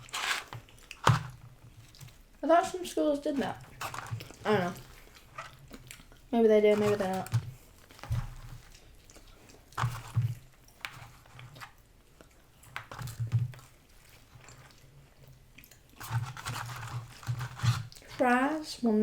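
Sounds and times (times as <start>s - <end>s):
chewing and biting food: 0.0s - 2.8s, 3.4s - 18.2s.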